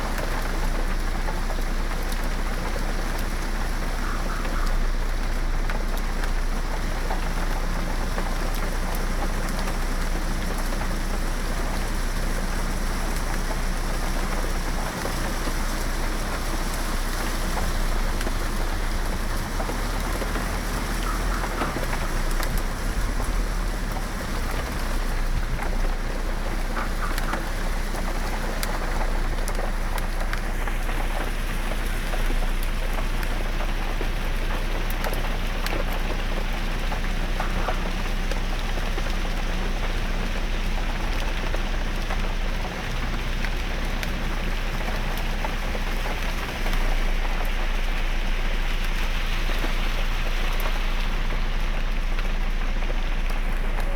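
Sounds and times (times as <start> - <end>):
heavy rain: 0.0 - 53.9
individual raindrop clicks: 0.0 - 53.9.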